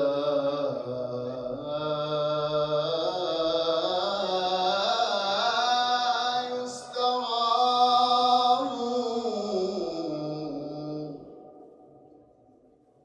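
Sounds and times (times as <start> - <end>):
man chanting: 0.0 - 11.7.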